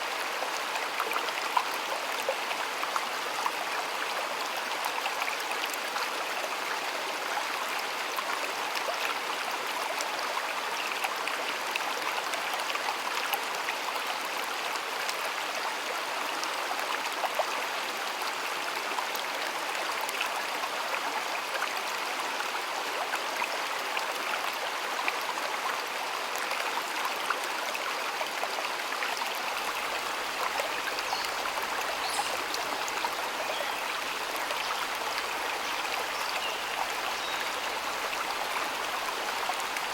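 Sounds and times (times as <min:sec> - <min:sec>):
stream water rushing and babbling: 0:00.0 - 0:39.9.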